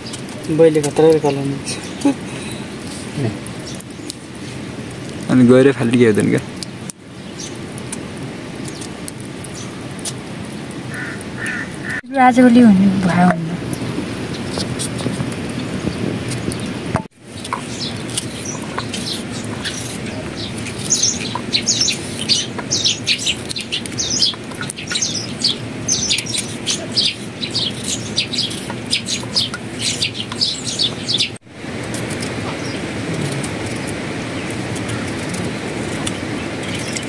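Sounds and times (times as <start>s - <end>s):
small birds chirping: 0.0s - 8.0s, 8.6s - 37.0s.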